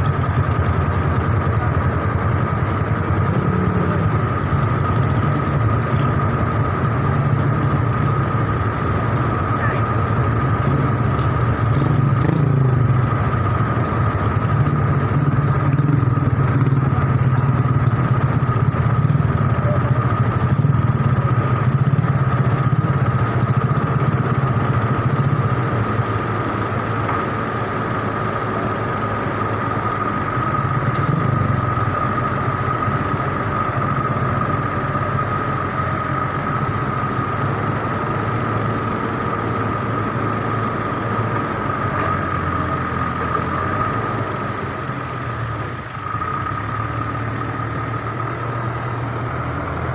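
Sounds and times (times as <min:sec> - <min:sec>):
engine running at low revs: 0:00.0 - 0:49.9.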